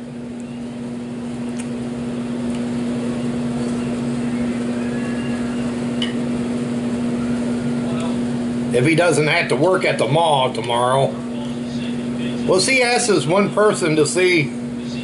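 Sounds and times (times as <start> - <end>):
electrical appliance hum: 0.0 - 15.0.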